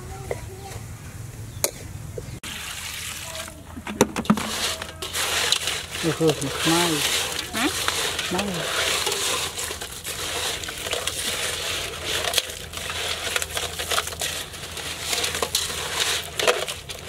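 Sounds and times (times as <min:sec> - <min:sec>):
crab shells clattering in metal basin: 0:02.5 - 0:17.0.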